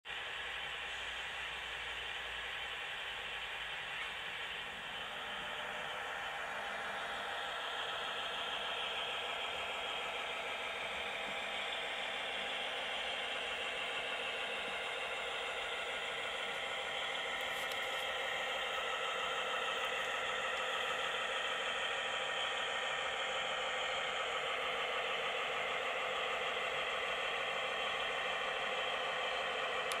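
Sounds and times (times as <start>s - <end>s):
model train whirring and rattling: 0.1s - 30.0s.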